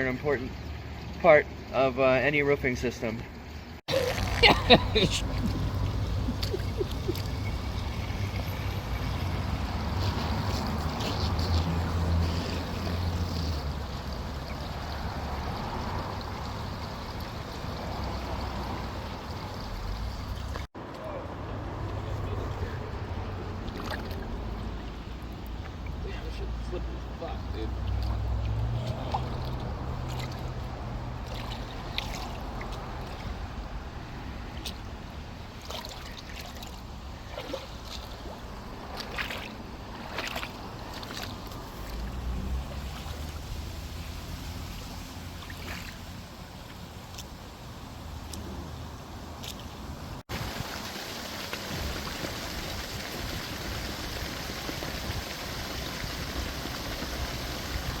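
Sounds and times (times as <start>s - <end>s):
water rushing down drains: 0.0s - 58.0s
water splashes: 3.4s - 58.0s.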